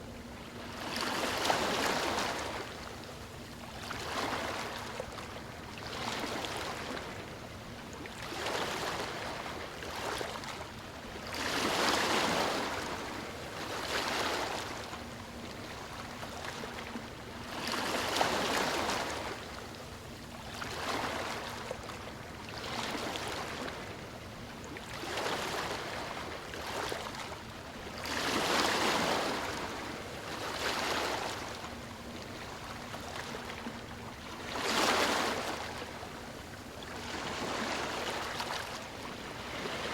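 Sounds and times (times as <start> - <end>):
ocean waves lapping: 3.8 - 7.4, 8.1 - 19.6, 20.6 - 39.9.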